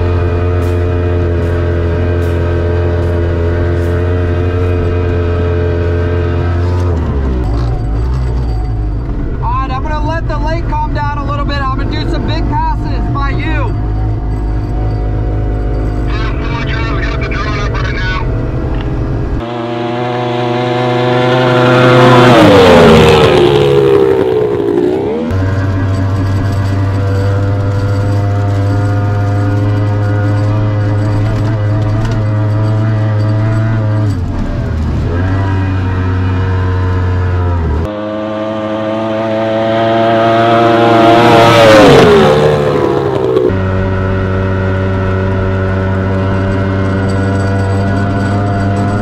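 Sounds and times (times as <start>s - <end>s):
racing boat engine: 0.0s - 49.0s.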